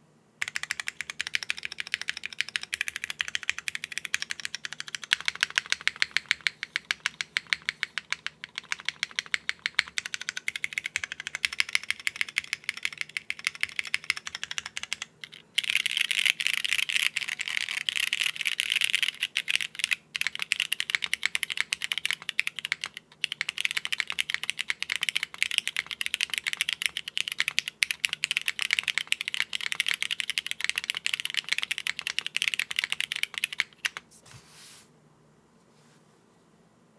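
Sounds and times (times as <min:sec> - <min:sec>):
mechanical keyboard typing: 0:00.4 - 0:34.0.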